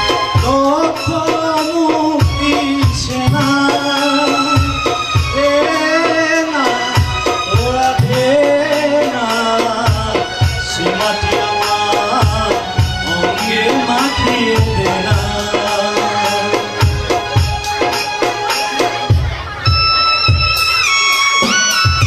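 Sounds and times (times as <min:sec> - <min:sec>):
man singing into a microphone: 0:00.0 - 0:18.8
drum beats: 0:00.0 - 0:22.0
instrumental accompaniment: 0:00.0 - 0:22.0.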